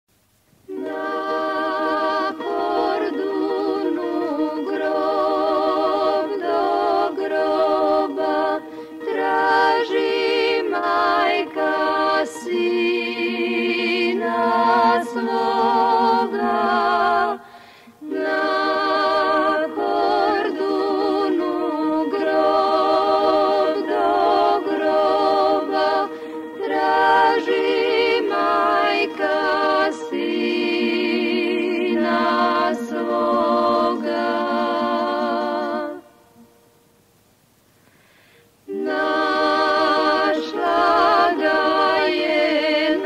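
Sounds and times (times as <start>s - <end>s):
several voices singing unaccompanied: 0.7s - 36.5s, 38.7s - 43.0s.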